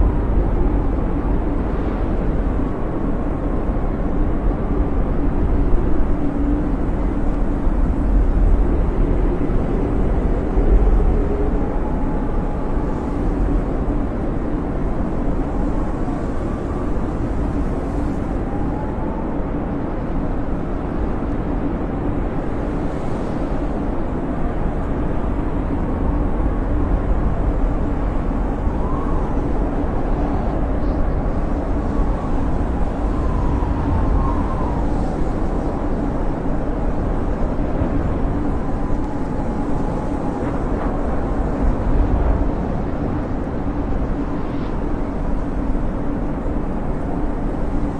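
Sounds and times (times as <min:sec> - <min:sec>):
howling storm wind: 0:00.0 - 0:47.9.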